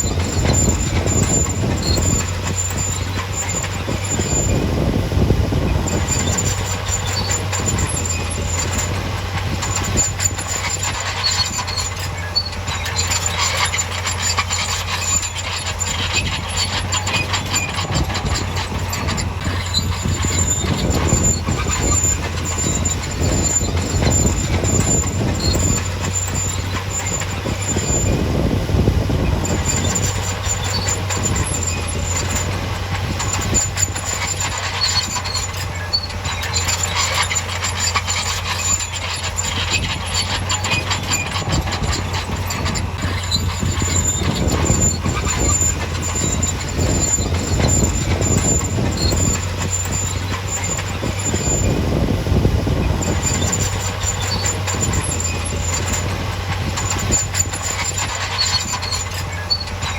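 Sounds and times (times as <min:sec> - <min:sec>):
diesel engine running: 0:00.0 - 0:59.9
steel crawler tracks clanking: 0:00.0 - 0:59.9.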